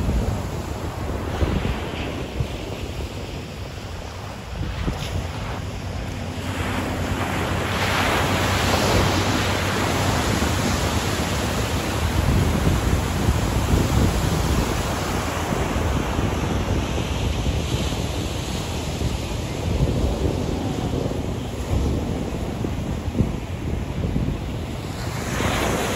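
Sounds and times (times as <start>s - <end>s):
surf breaking on beach: 0.0s - 25.9s.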